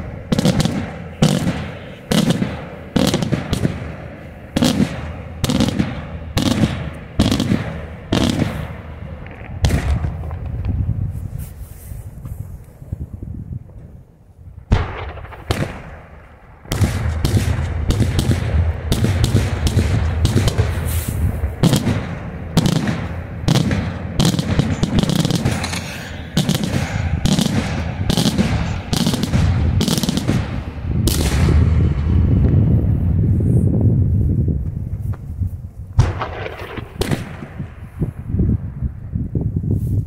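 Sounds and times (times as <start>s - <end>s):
fireworks bangs: 0.0s - 11.7s, 14.7s - 33.6s, 36.0s - 39.0s
continuous low rumble: 0.0s - 39.9s.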